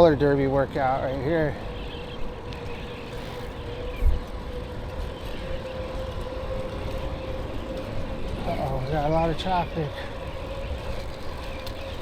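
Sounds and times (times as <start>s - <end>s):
electric bike motor whine: 0.0s - 12.0s
wind rumble on microphone: 0.0s - 12.0s.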